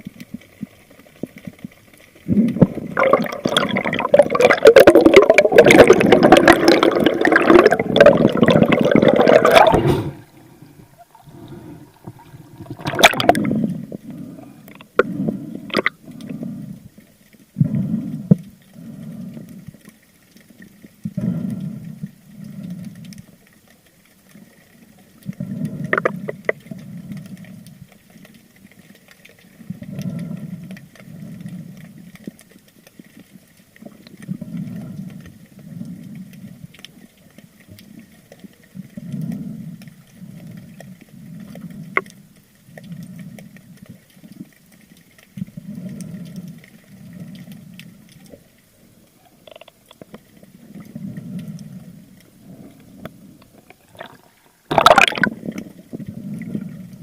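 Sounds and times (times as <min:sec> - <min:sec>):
underwater swishing swells: 0:00.0 - 0:57.0.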